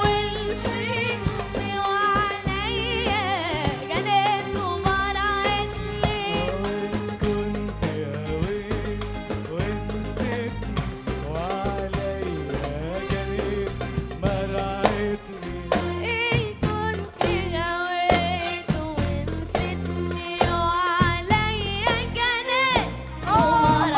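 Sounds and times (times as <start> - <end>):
low accompaniment: 0.0 - 23.9
percussion: 0.0 - 23.9.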